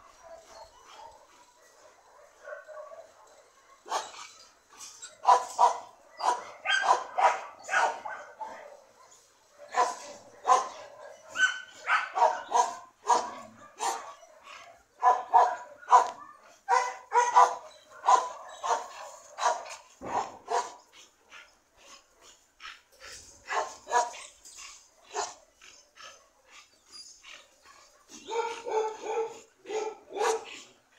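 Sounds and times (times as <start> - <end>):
dog barking: 0.0 - 4.4, 5.2 - 22.4, 23.4 - 24.4, 25.0 - 25.4, 27.7 - 30.7.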